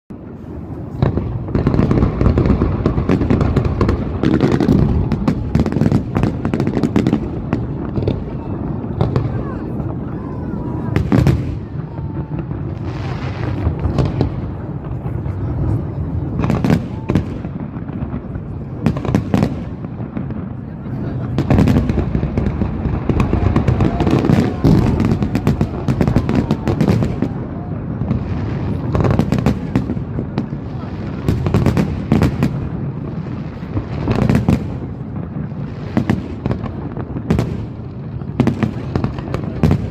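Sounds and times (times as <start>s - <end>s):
crowd voices: 0.1s - 39.9s
fireworks bangs and crackles: 0.1s - 39.9s.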